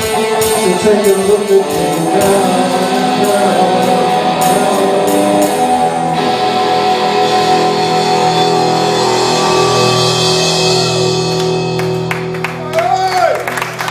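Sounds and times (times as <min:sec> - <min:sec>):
electric guitar: 0:00.0 - 0:13.9
live rock band playing: 0:00.0 - 0:13.9.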